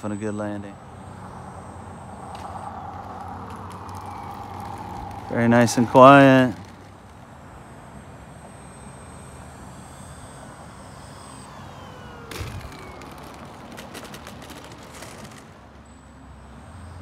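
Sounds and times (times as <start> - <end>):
rc plane motor whining: 0.0 - 17.0.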